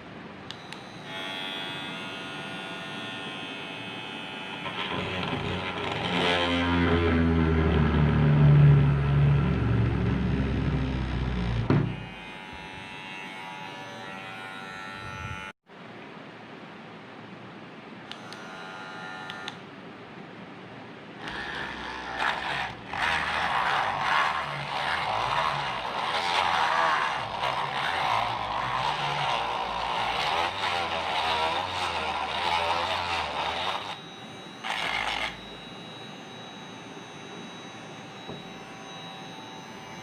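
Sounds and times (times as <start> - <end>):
small electric drill motor: 0.5 - 15.6, 18.1 - 19.6, 21.2 - 40.0.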